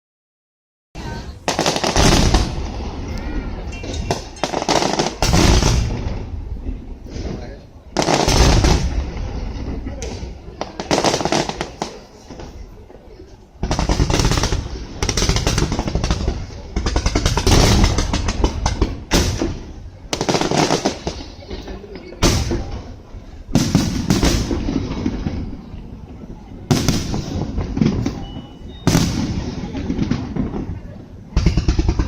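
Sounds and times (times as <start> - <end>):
crowd voices: 1.0 - 32.0
fireworks bangs and crackling: 1.0 - 32.0.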